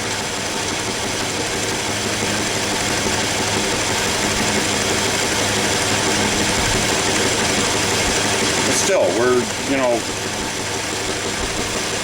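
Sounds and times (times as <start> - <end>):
lathe motor hum: 0.0 - 12.0
lathe tool cutting metal: 0.0 - 12.0.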